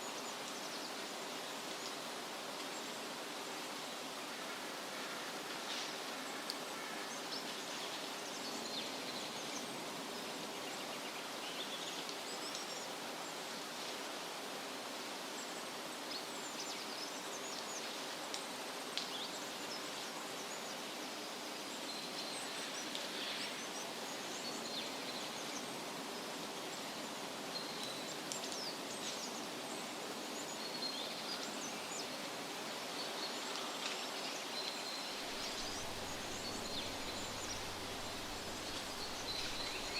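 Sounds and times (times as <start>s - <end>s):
rustling forest hiss: 0.0s - 39.9s.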